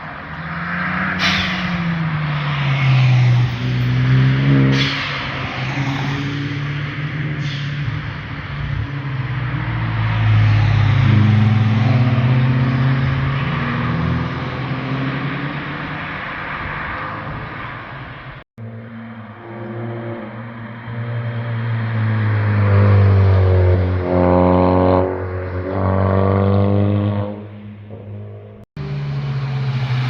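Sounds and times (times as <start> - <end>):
passing car engine: 0.0 - 30.0.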